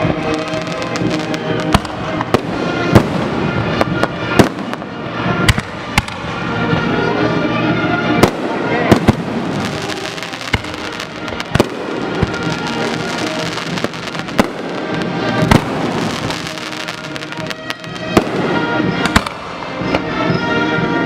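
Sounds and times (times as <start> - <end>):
fireworks bangs: 0.0 - 6.5, 8.2 - 19.8
fireworks crackling: 0.0 - 6.9, 8.2 - 19.8
music: 0.0 - 21.0.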